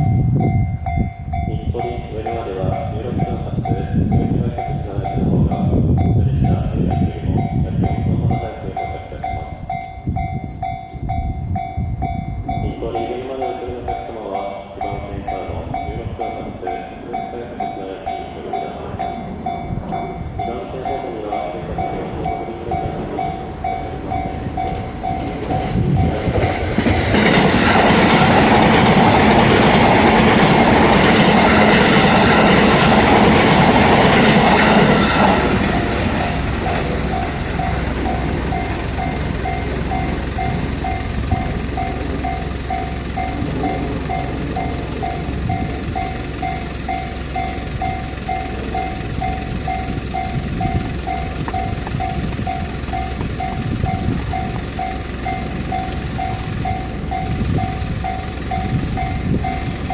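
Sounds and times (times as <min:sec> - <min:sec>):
level crossing alarm bell ringing: 0:00.0 - 0:59.9
train passing: 0:00.0 - 0:59.9.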